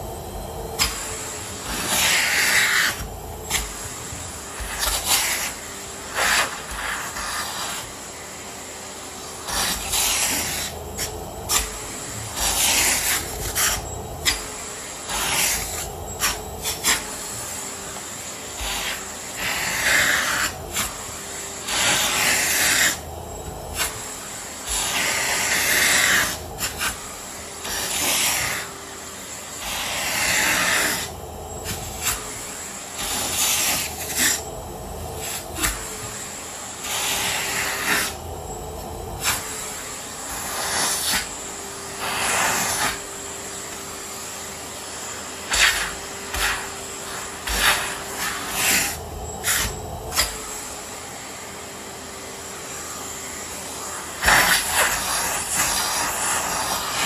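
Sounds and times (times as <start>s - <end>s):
vacuum air rush: 0.0s - 57.0s
vacuum cleaner motor: 0.0s - 57.0s.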